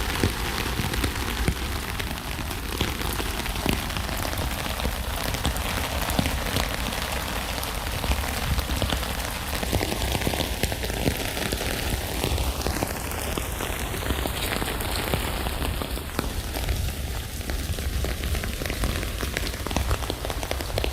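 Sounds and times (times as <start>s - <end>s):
rain falling on a tent: 0.0s - 20.9s.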